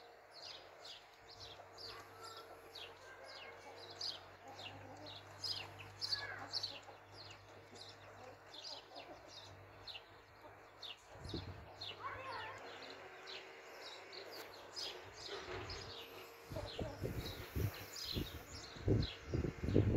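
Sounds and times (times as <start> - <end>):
chicks peeping: 0.4 - 19.9.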